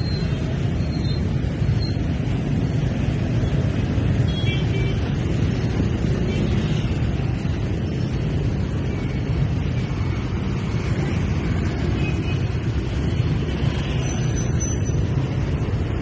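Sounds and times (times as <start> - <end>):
motor scooter engines in traffic: 0.0 - 16.0.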